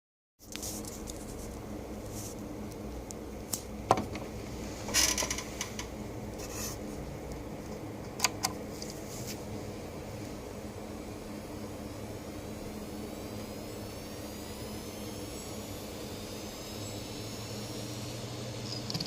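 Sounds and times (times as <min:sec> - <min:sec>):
hard drive humming: 0:01.0 - 0:19.0.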